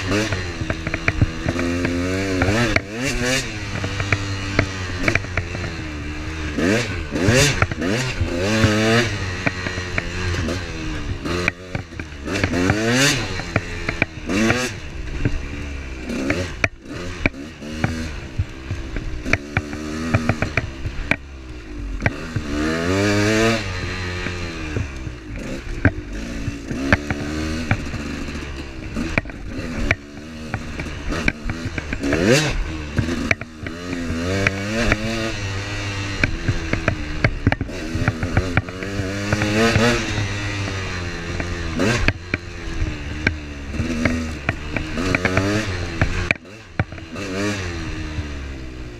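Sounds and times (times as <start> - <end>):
vehicle engine revving: 0.0 - 48.9.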